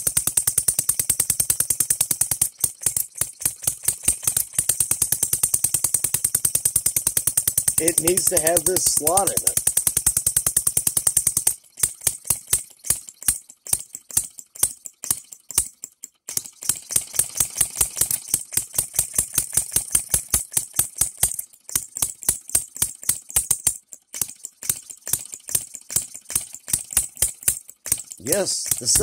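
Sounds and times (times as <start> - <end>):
small engine rapid ticking: 0.0 - 29.0.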